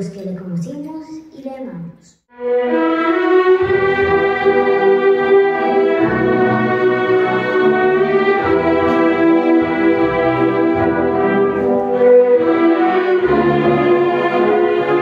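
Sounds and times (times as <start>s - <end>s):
violins sustained notes: 2.3s - 15.0s
cellos and basses: 2.4s - 15.0s.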